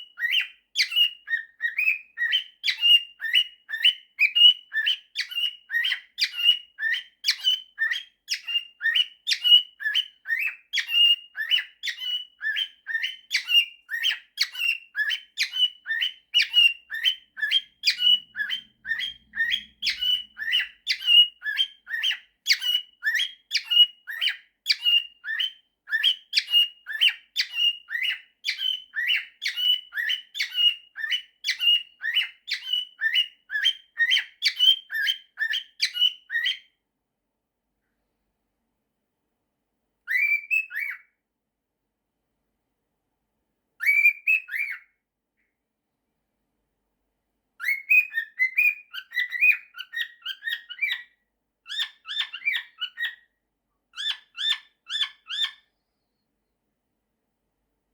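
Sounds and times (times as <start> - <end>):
cockatiel whistling and chirping: 0.0 - 36.8, 40.0 - 41.2, 43.8 - 45.0, 47.6 - 53.3, 53.9 - 56.0.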